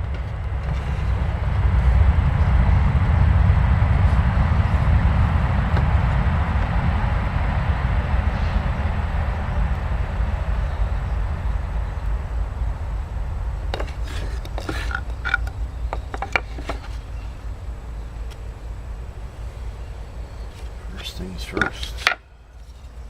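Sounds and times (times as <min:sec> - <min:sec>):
low rumble: 0:00.0 - 0:21.4.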